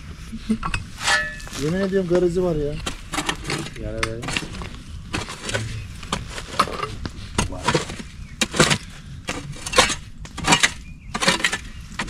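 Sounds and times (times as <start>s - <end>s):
mattock striking earth and stones: 0.8s - 12.0s.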